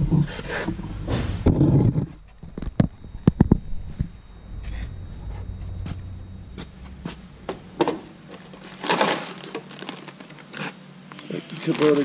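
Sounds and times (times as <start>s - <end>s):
low hum: 0.0s - 10.2s.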